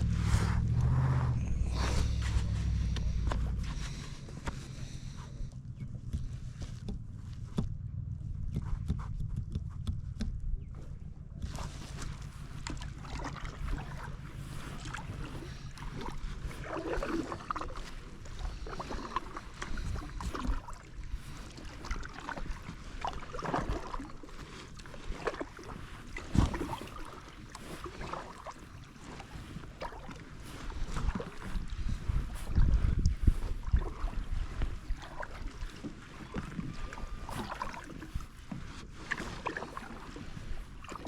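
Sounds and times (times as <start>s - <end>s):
kayak paddle splashing: 0.0s - 8.1s, 10.6s - 41.0s
wind rumble on microphone: 0.0s - 41.0s.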